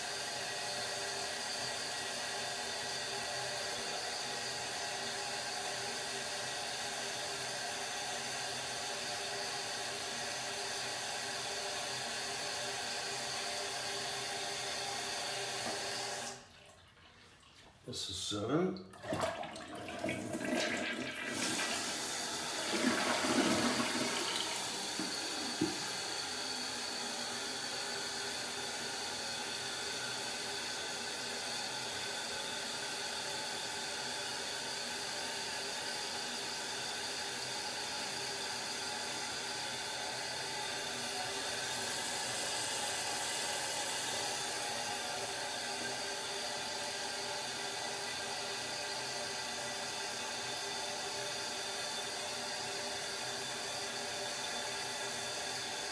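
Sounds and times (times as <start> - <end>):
toilet flushing: 0.0 - 18.0, 18.8 - 55.9.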